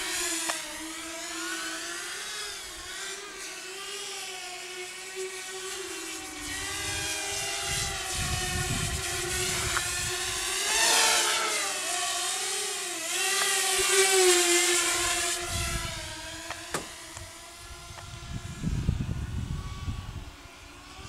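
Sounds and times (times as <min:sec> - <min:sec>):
quadcopter propellers whining: 0:00.0 - 0:21.0.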